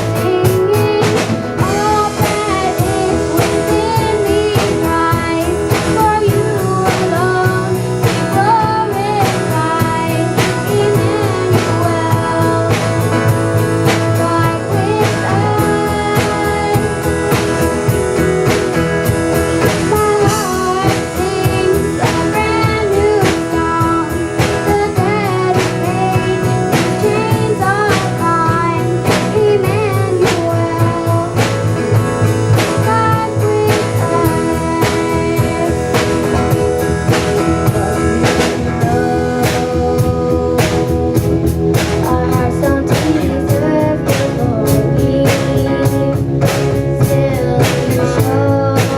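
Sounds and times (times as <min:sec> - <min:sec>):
band music with singing: 0:00.0 - 0:48.9.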